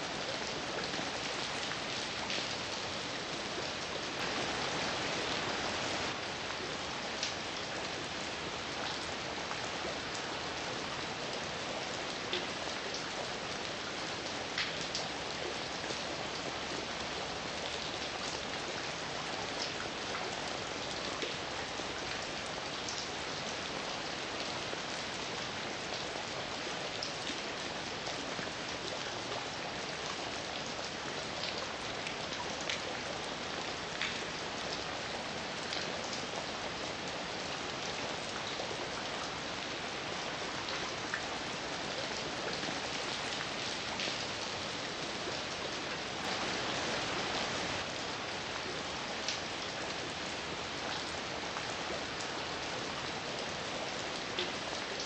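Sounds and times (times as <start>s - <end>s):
heavy rain falling: 0.0s - 54.9s
raindrops ticking on a surface: 0.1s - 4.7s, 5.4s - 55.0s.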